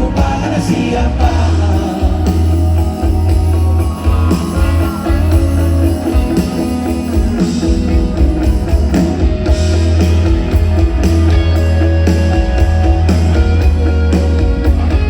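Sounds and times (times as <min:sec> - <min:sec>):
electric guitar: 0:00.0 - 0:15.0
live rock band playing: 0:00.0 - 0:15.0.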